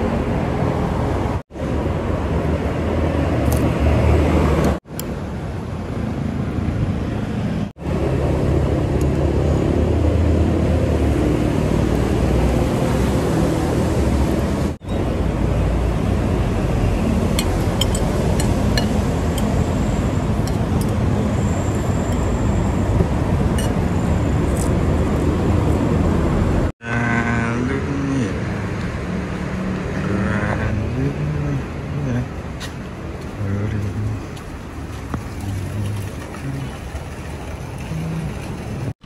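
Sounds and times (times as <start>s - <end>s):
car and road noise: 0.0s - 39.0s.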